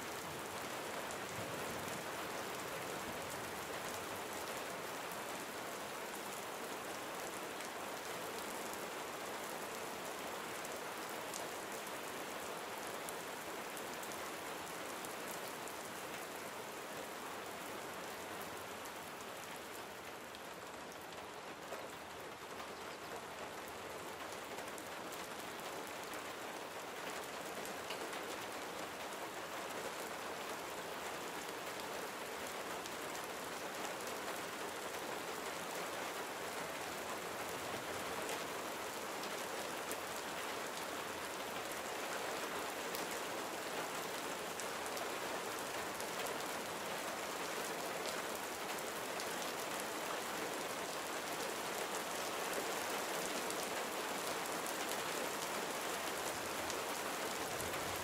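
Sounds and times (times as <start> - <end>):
gentle rain pattering: 0.0 - 58.0.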